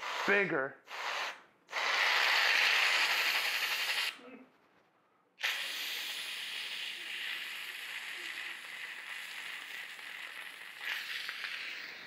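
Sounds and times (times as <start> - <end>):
aerosol can spraying hiss: 0.0 - 4.2, 5.4 - 12.0.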